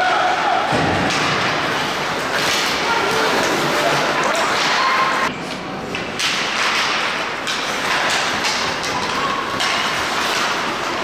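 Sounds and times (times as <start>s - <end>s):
knocks of sticks puck and boards: 0.7s - 4.8s, 5.8s - 11.0s
skates scraping ice: 1.0s - 11.0s.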